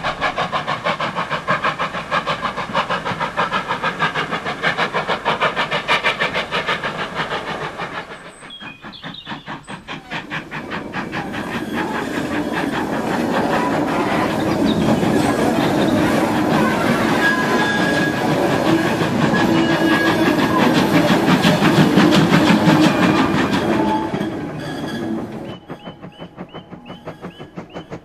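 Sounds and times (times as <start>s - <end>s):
steam locomotive exhaust beats: 0.0s - 28.0s
train rumbling and clattering on rails: 0.0s - 28.0s.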